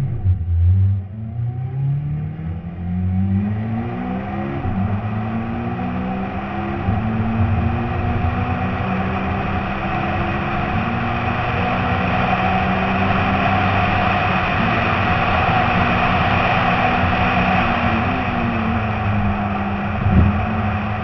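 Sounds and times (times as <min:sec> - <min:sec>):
car engine running hard: 0:00.0 - 0:21.0
road noise: 0:00.0 - 0:21.0.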